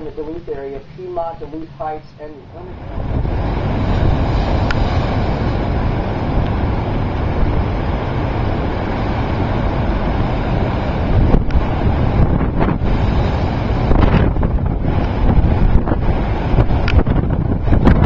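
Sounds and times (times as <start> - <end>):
lake surf: 0.0 - 18.0
gale wind buffeting microphone: 2.5 - 18.0.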